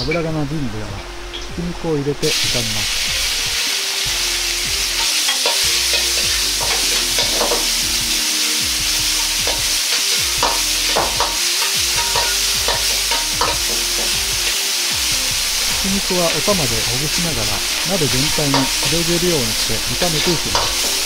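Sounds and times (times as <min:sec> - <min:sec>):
ladle scraping a wok: 0:02.3 - 0:16.6, 0:17.6 - 0:21.0
meat sizzling in a wok: 0:02.3 - 0:21.0.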